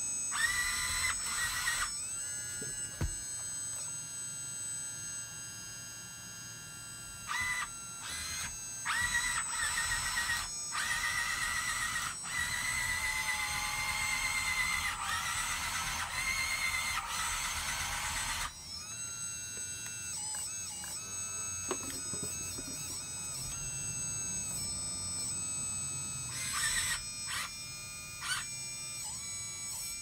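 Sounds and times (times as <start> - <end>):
hydraulic pump motor whining: 0.0 - 4.2, 7.1 - 30.0.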